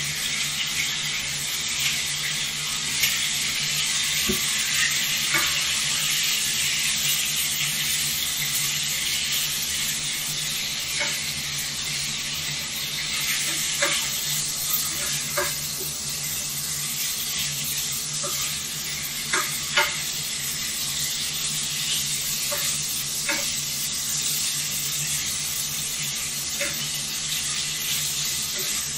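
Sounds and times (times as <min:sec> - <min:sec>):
food sizzling in a pan: 0:00.0 - 0:28.9.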